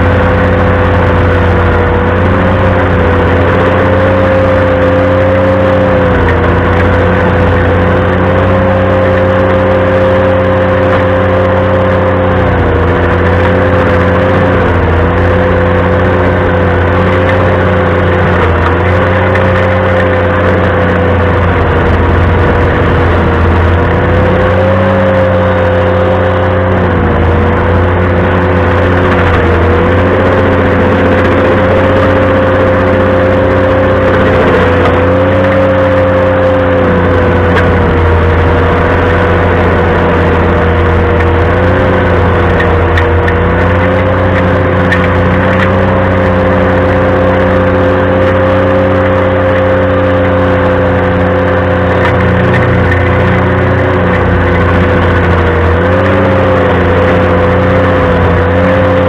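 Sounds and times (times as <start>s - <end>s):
stump grinder machine drone: 0.0s - 59.0s
wavering machine whine: 0.0s - 59.0s.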